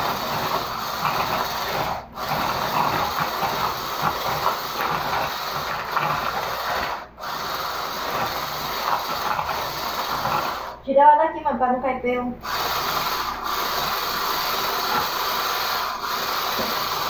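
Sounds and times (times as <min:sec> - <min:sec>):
electric mixer beating batter: 0:00.0 - 0:10.8, 0:12.4 - 0:17.0.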